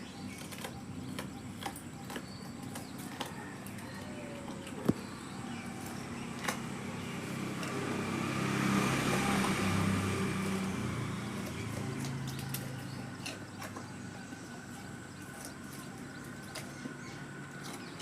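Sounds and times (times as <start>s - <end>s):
vehicle engine passing: 2.8s - 18.0s.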